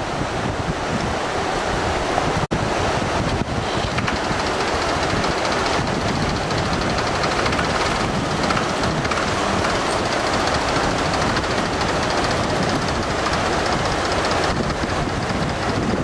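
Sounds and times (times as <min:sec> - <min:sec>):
white water rushing over rapids: 0:00.0 - 0:16.0.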